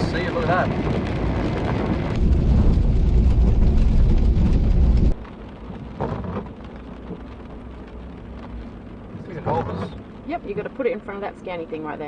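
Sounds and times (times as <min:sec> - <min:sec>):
heavy low rumble: 0:00.0 - 0:12.0
rain: 0:00.0 - 0:12.0.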